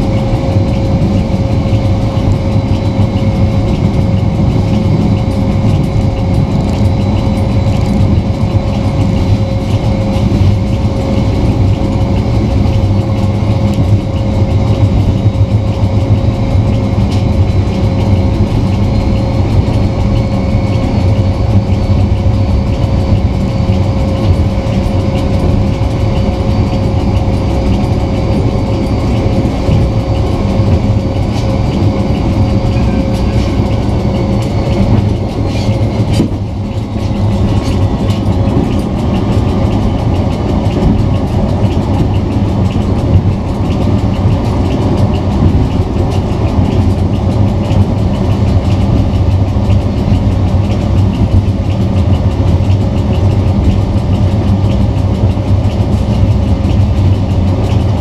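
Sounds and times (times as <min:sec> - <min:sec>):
diesel engine running: 0:00.0 - 0:58.0
wheels clattering on track: 0:00.0 - 0:58.0.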